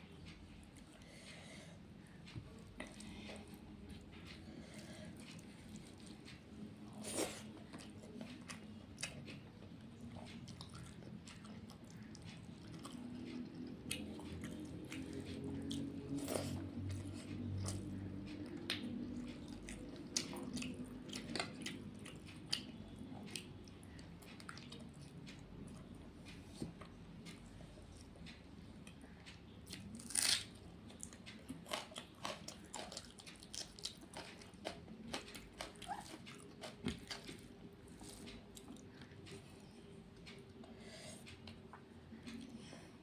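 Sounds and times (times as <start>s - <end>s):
person chewing food: 0.2s - 43.0s.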